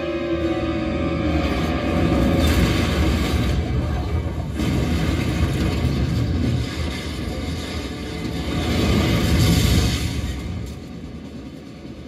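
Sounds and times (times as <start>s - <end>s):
battle soundtrack through speakers: 0.0s - 12.0s.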